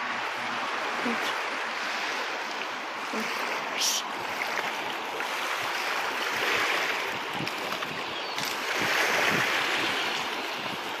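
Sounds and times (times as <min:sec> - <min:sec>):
waves washing over pebbles: 0:00.0 - 0:11.0
wind rumbling on microphone: 0:00.0 - 0:11.0.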